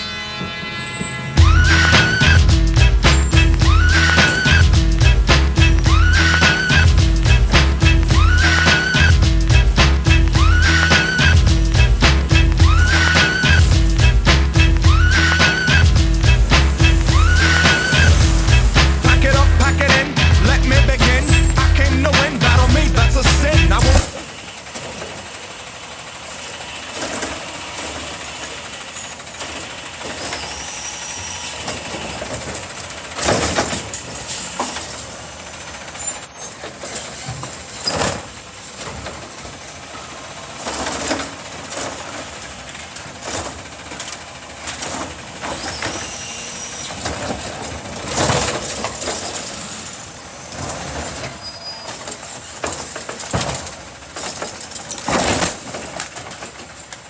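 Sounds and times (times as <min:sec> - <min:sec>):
air brakes hissing: 0:00.0 - 0:55.9
garbage truck running: 0:00.0 - 0:57.0.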